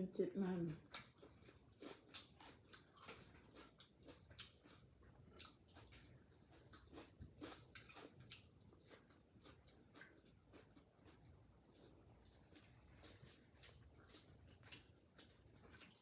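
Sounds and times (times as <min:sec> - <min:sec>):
person chewing with wet smacks: 0:00.7 - 0:16.0.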